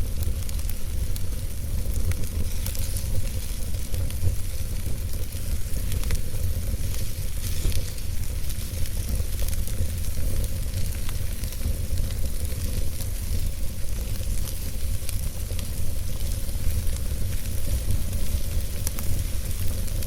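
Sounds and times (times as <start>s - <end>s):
campfire crackles and pops: 0.0s - 20.0s
campfire hiss and rumble: 0.0s - 20.0s.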